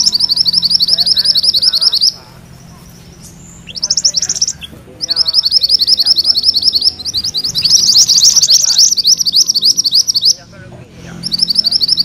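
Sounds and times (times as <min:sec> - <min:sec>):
songbird singing rolling song: 0:00.0 - 0:12.0.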